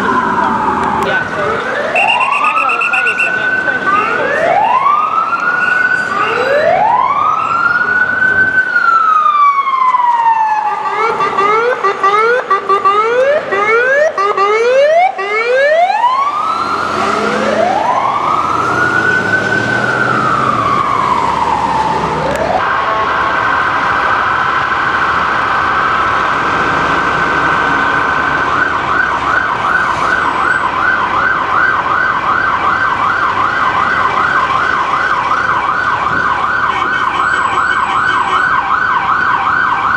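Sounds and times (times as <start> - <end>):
ambulance siren wailing and yelping: 0.0 - 39.9.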